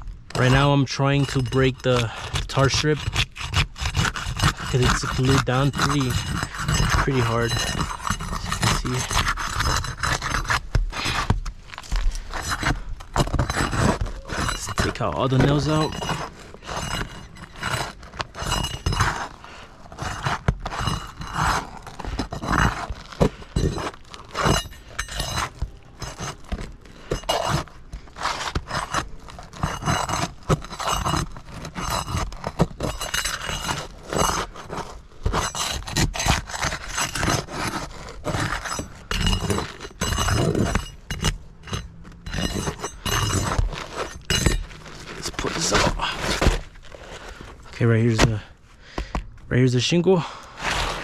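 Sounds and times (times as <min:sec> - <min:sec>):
hand tool scraping shingles: 0:00.0 - 0:51.0.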